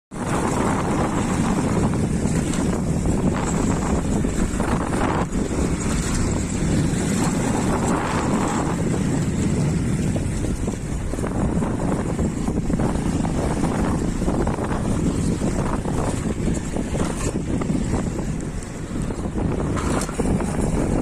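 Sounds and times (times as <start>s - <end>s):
motorcycle riding noise: 0.1s - 21.0s
wind rushing over microphone: 0.1s - 21.0s.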